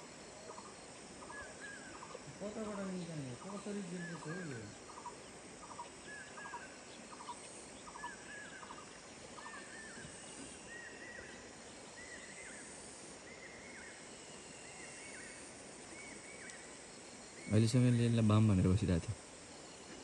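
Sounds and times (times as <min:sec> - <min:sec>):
bird calling: 0:00.0 - 0:19.0
steady outdoor hiss: 0:00.0 - 0:20.0.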